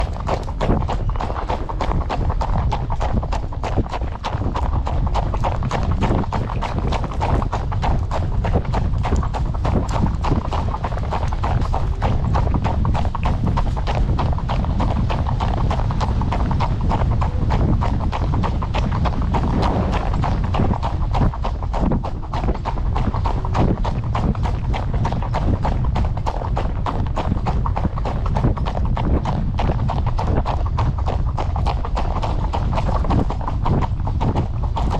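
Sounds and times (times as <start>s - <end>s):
horse hooves clip-clopping on road: 0.0s - 34.9s
low rumble: 0.0s - 34.9s.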